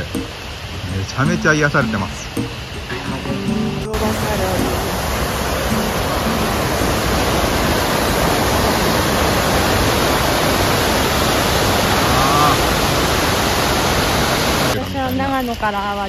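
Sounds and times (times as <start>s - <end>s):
water rushing over rocks: 0.0s - 15.7s.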